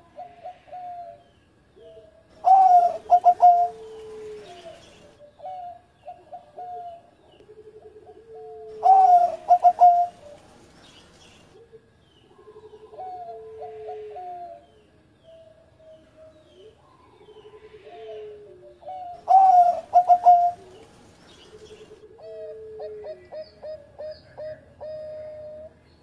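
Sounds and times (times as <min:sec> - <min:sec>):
softer coos of other doves: 0:00.0 - 0:10.6, 0:11.6 - 0:25.8
dove cooing song: 0:00.0 - 0:25.8.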